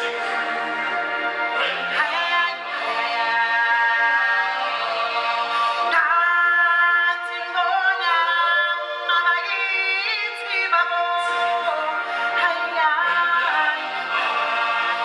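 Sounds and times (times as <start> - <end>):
unaccompanied singing voices: 1.6 - 15.0.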